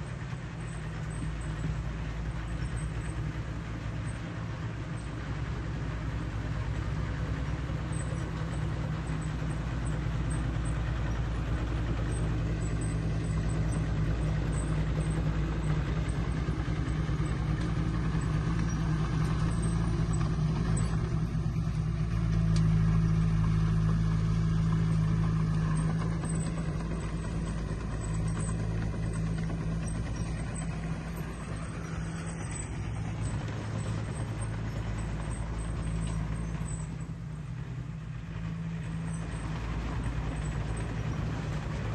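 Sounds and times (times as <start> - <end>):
heavy diesel engine under load: 0.0 - 41.9.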